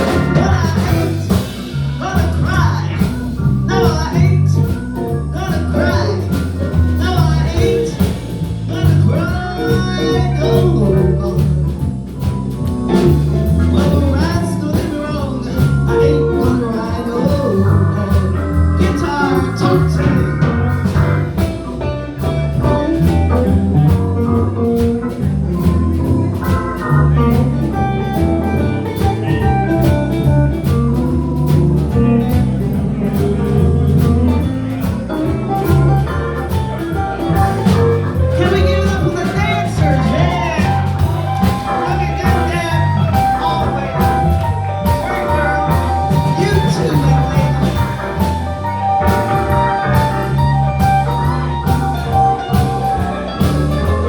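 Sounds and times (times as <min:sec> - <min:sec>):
blues band playing: 0:00.0 - 0:54.0
steady drum beat: 0:00.0 - 0:54.0.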